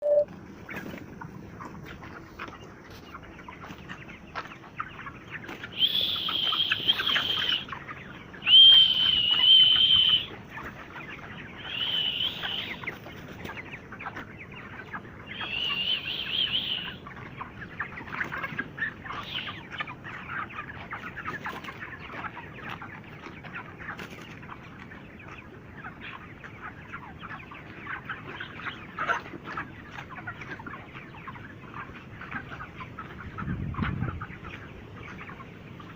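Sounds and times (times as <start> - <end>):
chickens clucking and cheeping: 0.0 - 35.9
high drawn-out chicken calls: 0.0 - 35.9.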